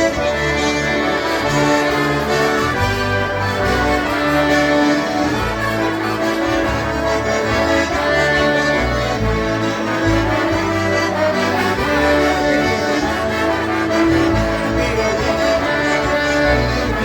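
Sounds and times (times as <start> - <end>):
concertinas playing folk dance: 0.0 - 17.0.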